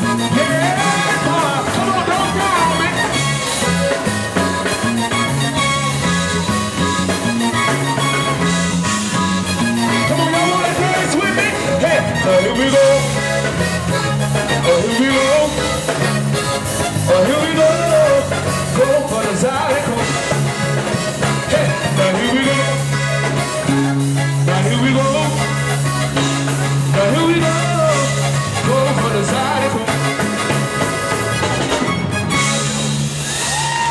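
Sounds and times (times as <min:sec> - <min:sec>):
held bass notes: 0:00.0 - 0:33.9
live zydeco band playing: 0:00.0 - 0:33.9.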